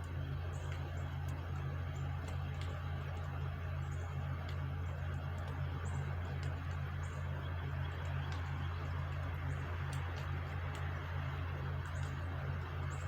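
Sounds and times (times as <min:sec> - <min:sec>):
faint light ticks: 0:00.0 - 0:13.0
steady low hum: 0:00.0 - 0:13.0.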